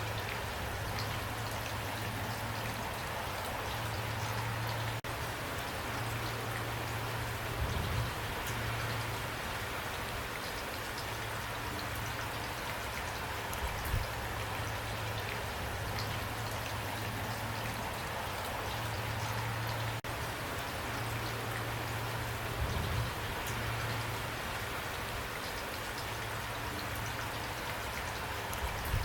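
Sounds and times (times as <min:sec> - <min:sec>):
rain drops ticking: 0:00.0 - 0:29.0.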